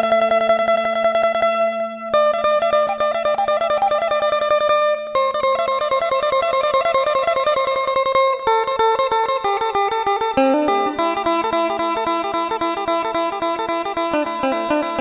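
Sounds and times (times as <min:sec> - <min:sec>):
plucked lute melody: 0:00.0 - 0:15.0.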